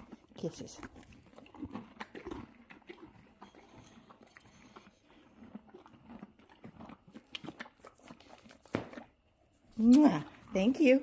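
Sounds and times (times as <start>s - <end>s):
horse munching crunchy treat: 0.0s - 11.0s.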